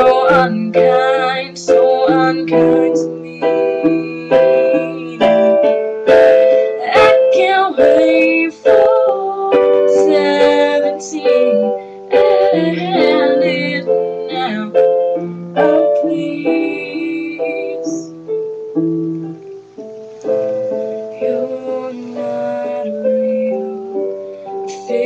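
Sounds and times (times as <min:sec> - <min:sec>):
electronic keyboard chords and melody: 0:00.0 - 0:25.0.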